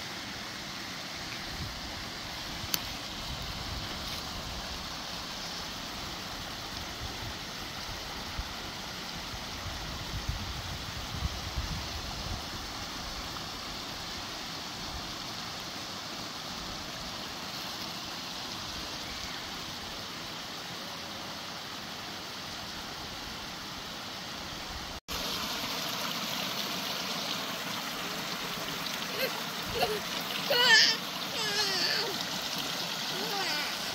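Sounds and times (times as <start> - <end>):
stream trickling: 0.0 - 33.9.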